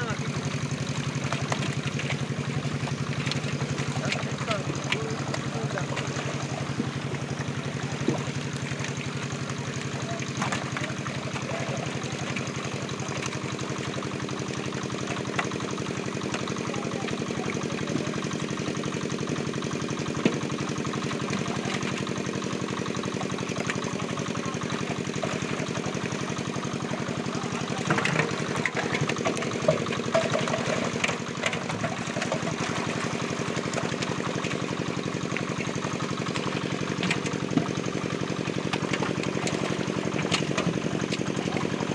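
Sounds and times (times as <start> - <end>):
small engine running: 0.0 - 41.9
water splashes from fish: 0.0 - 41.9.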